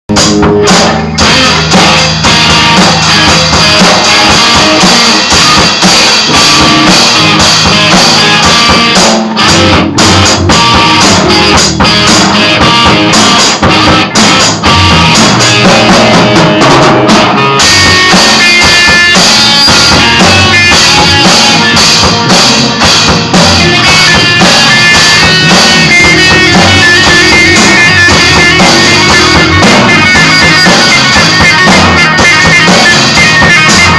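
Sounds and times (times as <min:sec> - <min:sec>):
guitar: 0:00.0 - 0:33.9
drum kit: 0:00.1 - 0:33.9.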